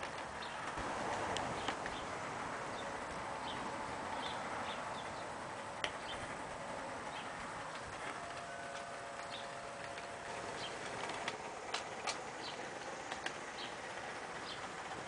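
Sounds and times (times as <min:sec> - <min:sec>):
birds chirping: 0:00.0 - 0:00.8, 0:01.4 - 0:14.9
steam locomotive hissing: 0:00.7 - 0:15.0.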